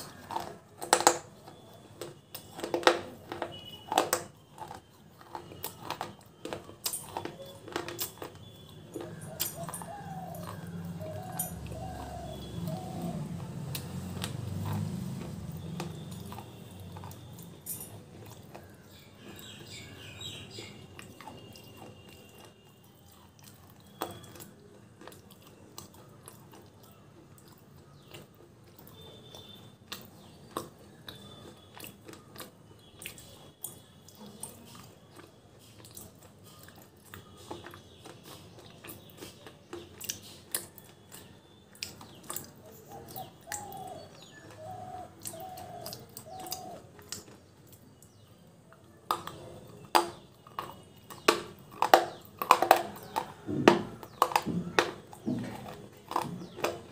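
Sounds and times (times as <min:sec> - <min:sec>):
gritty crunches chewing clay: 0:00.0 - 0:56.9.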